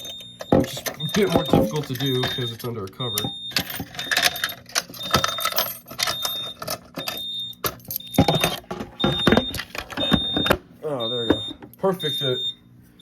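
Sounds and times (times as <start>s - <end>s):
high electronic beep: 0.0s - 4.2s, 6.1s - 12.5s
alarm pull station clicking and rattling: 0.0s - 12.1s.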